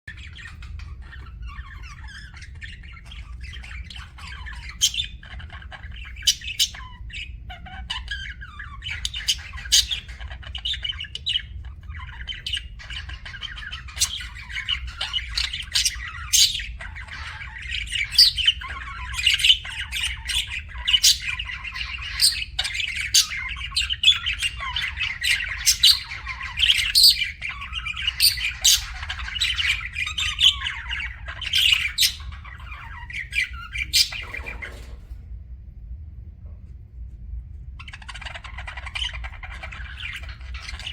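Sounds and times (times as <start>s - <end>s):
budgerigars chirping and squawking: 0.1s - 35.2s, 37.7s - 40.9s
steady low hum: 0.1s - 40.9s.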